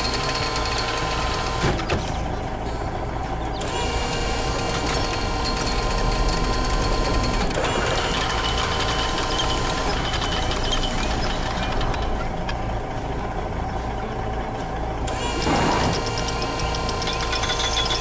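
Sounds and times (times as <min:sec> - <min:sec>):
construction vehicle engine running: 0:00.0 - 0:18.0
high mechanical whine: 0:00.0 - 0:18.0.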